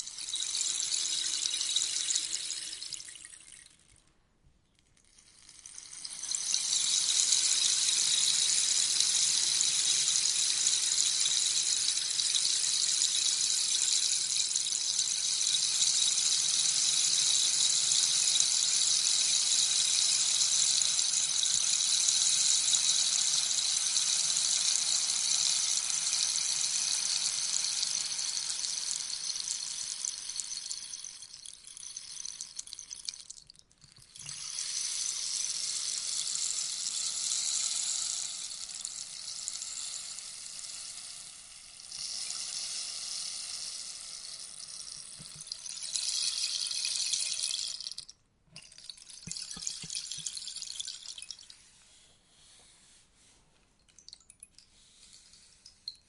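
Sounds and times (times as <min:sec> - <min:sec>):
rainstick beads trickling: 0:00.0 - 0:04.0, 0:04.8 - 0:52.0, 0:53.8 - 0:56.0.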